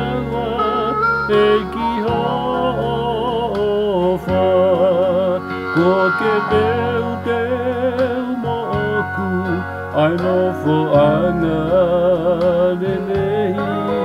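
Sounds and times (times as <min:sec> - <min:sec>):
backing track of held chords: 0:00.0 - 0:14.0
man singing a hymn: 0:00.0 - 0:14.0.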